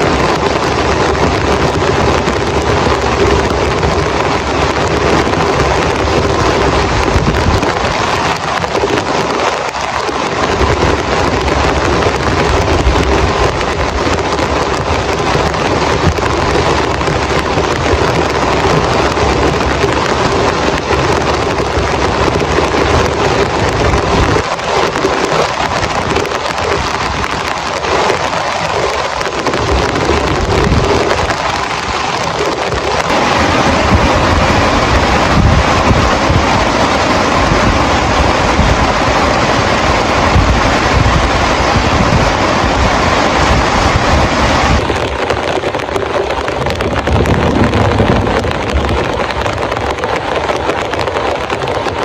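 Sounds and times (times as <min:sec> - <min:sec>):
heavy rain pouring: 0:00.0 - 0:52.0
low rumble: 0:00.0 - 0:52.0.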